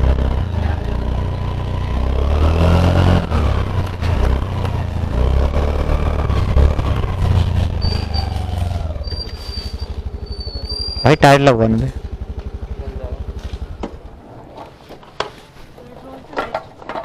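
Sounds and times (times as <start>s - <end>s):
motor scooter engine: 0.0s - 15.2s.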